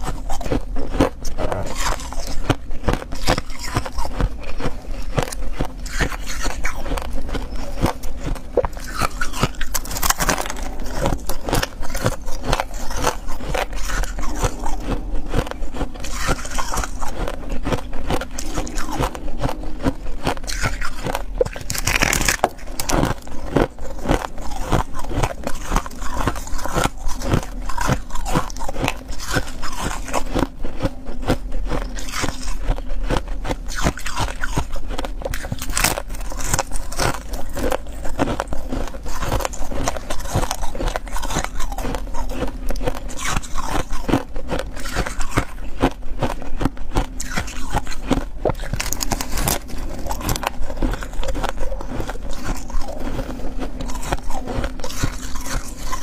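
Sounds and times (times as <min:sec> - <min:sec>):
chewing crushed ice: 0:00.0 - 0:56.0.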